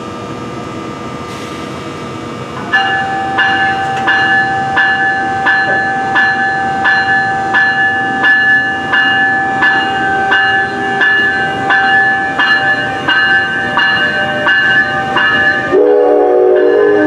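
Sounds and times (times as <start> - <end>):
locomotive bell ringing: 1.3 - 17.0.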